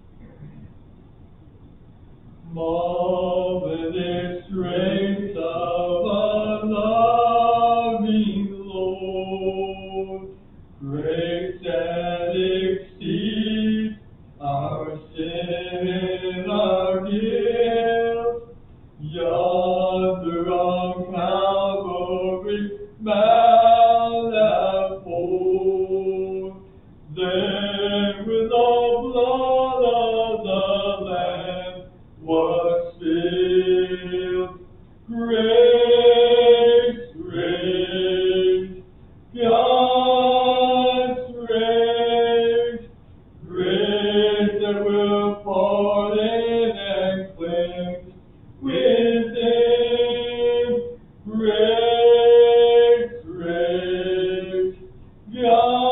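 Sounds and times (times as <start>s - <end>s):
voices singing a hymn: 2.4s - 55.9s.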